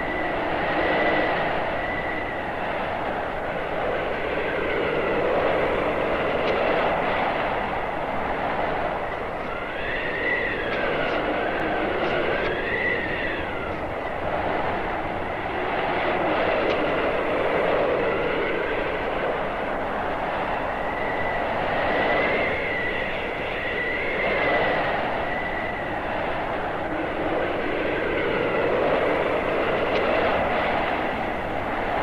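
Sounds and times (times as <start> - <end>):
blizzard wind howling: 0.0 - 32.0
thin wind whistle: 0.0 - 32.0.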